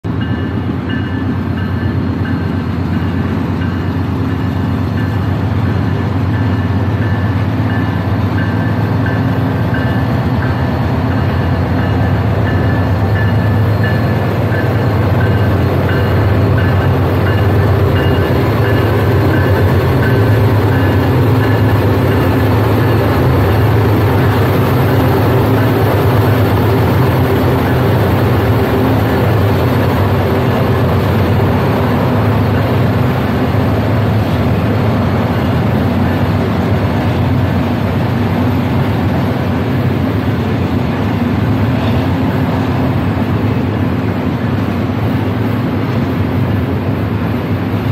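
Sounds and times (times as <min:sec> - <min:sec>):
train rumbling on bridge: 0:00.0 - 0:47.9.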